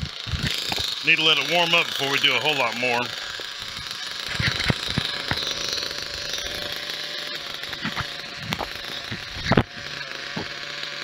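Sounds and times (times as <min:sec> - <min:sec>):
model engine idling: 0:00.0 - 0:11.0.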